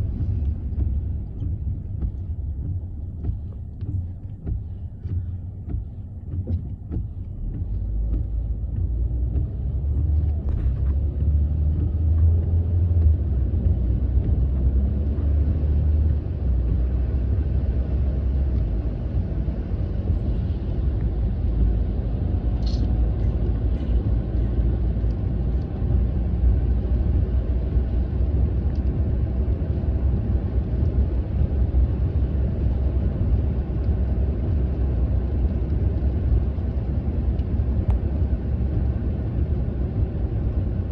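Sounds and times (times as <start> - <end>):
car road rumble inside cabin: 0.0 - 40.9.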